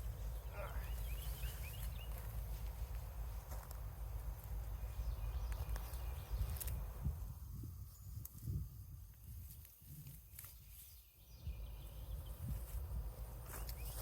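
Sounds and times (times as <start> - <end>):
digging and rustling in soil: 0.0 - 14.0.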